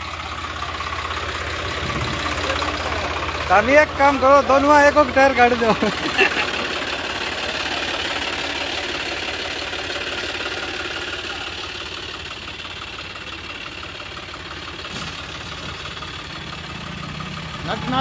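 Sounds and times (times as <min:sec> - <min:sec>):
tractor diesel engines running: 0:00.0 - 0:18.0.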